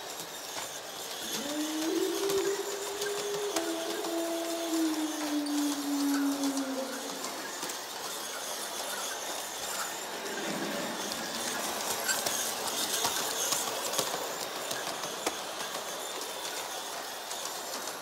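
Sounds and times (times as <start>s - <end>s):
model train rolling hum: 0.0s - 18.0s
wheels clicking over rail joints: 0.0s - 18.0s.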